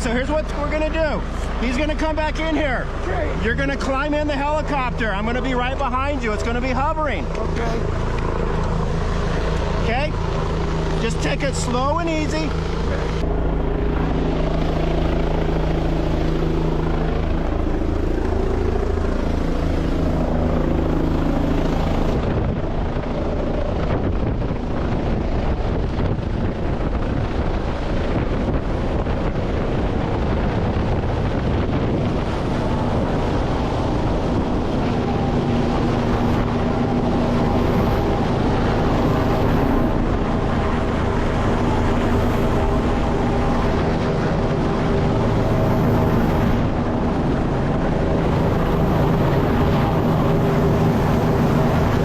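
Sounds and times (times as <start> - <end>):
helicopter engine and rotor: 0.0 - 52.0
wind buffeting microphone: 0.0 - 52.0.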